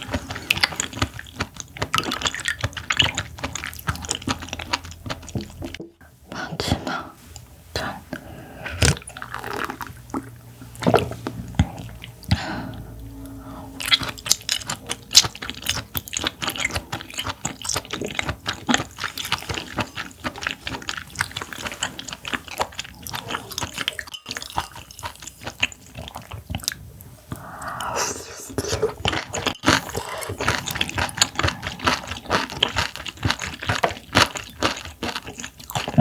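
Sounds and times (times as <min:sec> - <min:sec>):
wet chewing mouth clicks: 0:00.0 - 0:05.8, 0:08.8 - 0:36.0.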